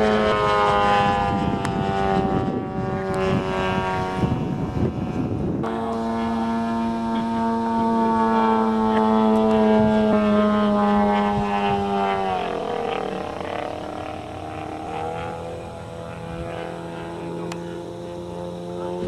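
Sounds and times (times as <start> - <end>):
model plane engine in flight: 0.0 - 19.0.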